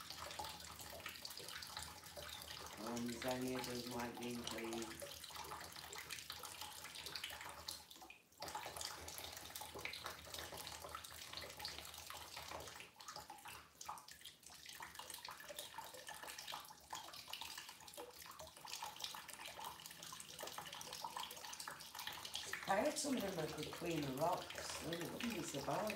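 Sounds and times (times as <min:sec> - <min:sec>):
water trickling through siphon hose: 0:00.0 - 0:25.9.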